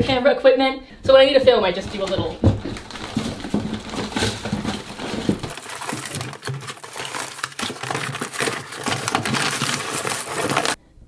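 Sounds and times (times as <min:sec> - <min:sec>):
straps bags and boxes rustling: 0:01.7 - 0:10.8.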